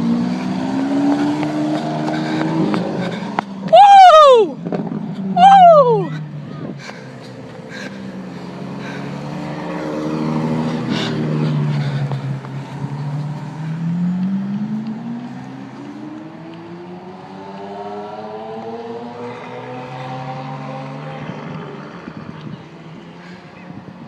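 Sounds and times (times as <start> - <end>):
sports car engine accelerating: 0.0 - 3.8, 4.6 - 23.2.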